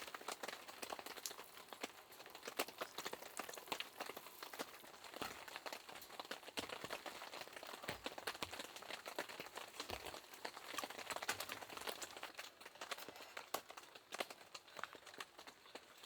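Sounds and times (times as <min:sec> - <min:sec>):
rain drops tapping: 0:00.0 - 0:16.0.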